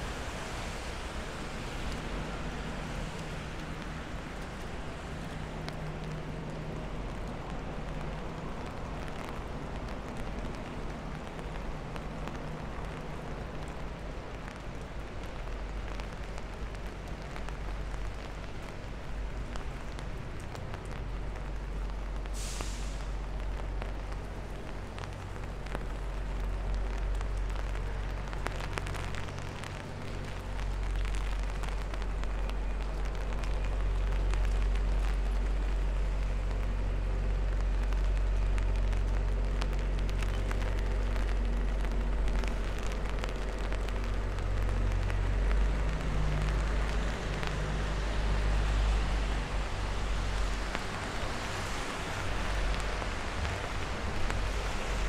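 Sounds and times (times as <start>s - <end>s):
rain pattering: 0.0s - 55.0s
low steady rumble: 3.6s - 55.0s.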